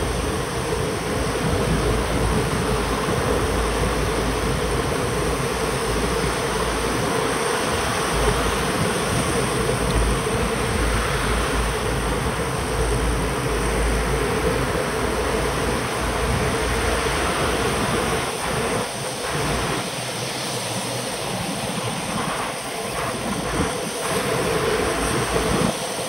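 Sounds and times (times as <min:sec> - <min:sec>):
steady hum: 0:00.0 - 0:26.0
tyres hissing on wet road: 0:00.0 - 0:26.0
wind buffeting microphone: 0:00.0 - 0:26.0.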